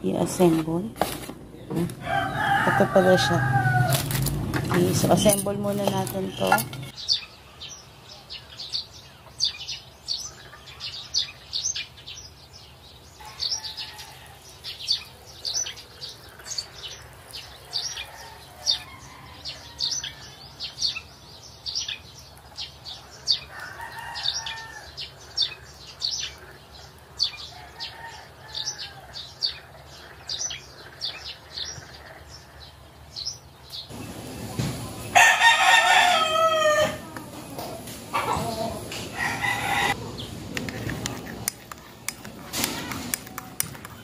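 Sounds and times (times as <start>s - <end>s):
small birds chirping: 4.7s - 44.0s.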